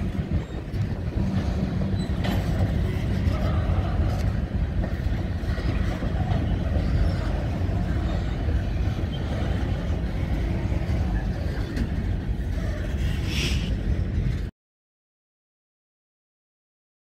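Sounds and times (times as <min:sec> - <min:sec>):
freight train: 0:00.0 - 0:14.5
wind buffeting microphone: 0:00.0 - 0:14.5.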